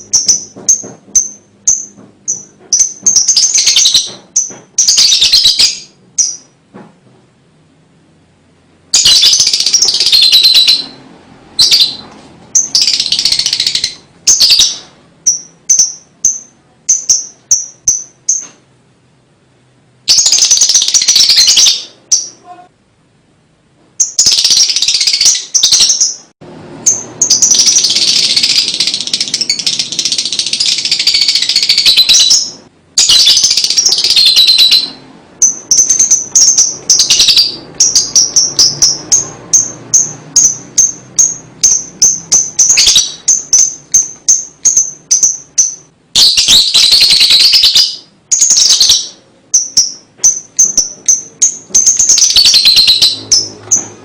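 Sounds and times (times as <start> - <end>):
lovebird chattering: 0.0 - 6.6, 8.9 - 18.5, 20.1 - 22.7, 24.0 - 54.0.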